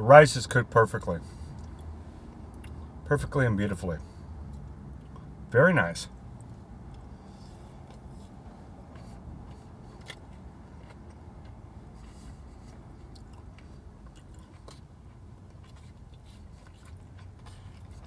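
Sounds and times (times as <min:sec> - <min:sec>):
low steady rumble: 0:00.0 - 0:18.0
man chewing: 0:01.4 - 0:03.0, 0:04.4 - 0:05.4, 0:06.2 - 0:18.0.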